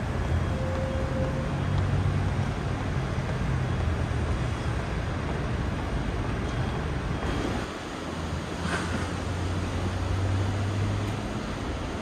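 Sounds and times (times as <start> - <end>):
cars driving past: 0.0 - 12.0
low traffic hum: 0.0 - 12.0.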